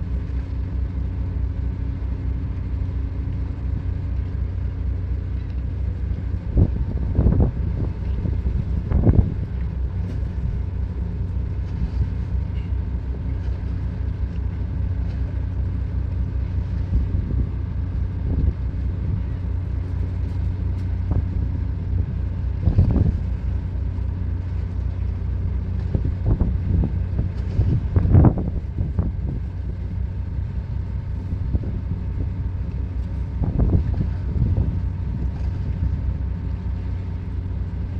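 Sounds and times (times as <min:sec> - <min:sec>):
ship machinery humming: 0:00.0 - 0:37.9.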